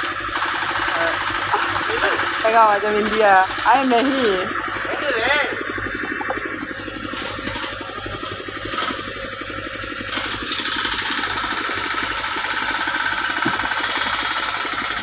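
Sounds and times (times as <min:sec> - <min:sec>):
engine knocking steadily: 0:00.0 - 0:15.0.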